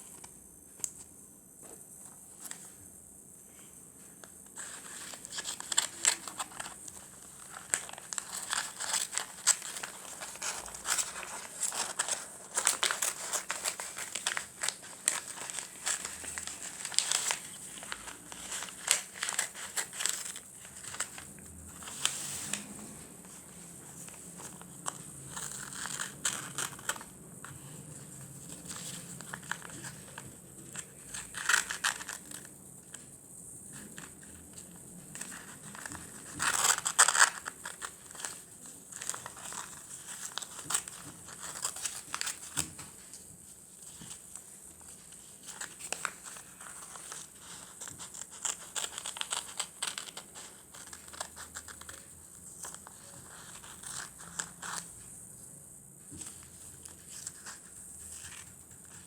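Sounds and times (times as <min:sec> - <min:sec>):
paper crinkling and rustling: 0:04.2 - 0:55.2, 0:56.1 - 0:59.0.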